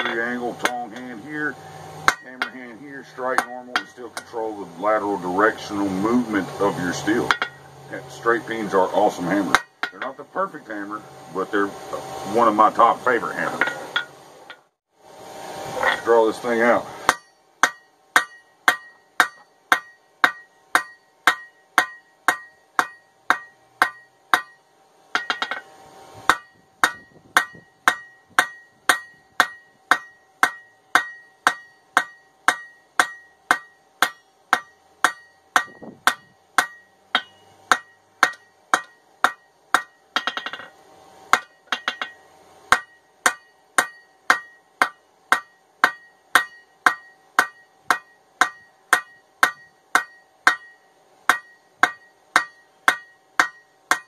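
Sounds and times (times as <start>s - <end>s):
hammer striking steel on anvil: 0.0s - 11.0s, 13.4s - 14.6s, 16.7s - 54.0s.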